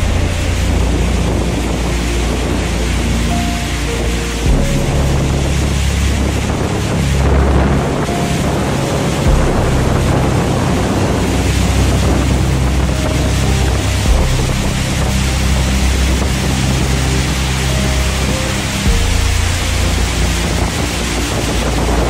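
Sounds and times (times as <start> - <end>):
faint background music: 0.0 - 22.0
heavy rain pouring: 0.0 - 22.0
wind buffeting microphone: 0.0 - 22.0.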